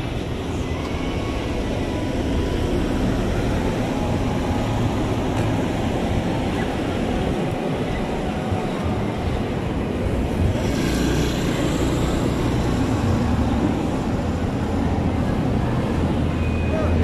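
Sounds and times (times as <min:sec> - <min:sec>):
street traffic moving slowly: 0:00.0 - 0:17.0.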